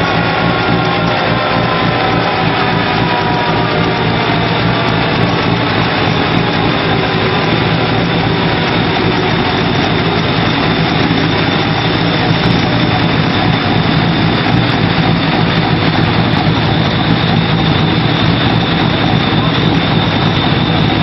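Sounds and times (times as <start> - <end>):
vehicle engine running steadily: 0.0 - 21.0.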